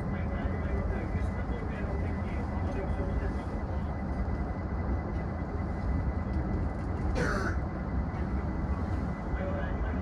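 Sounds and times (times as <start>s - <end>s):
electric train low hum: 0.0s - 10.0s
faint thin whine: 0.0s - 10.0s.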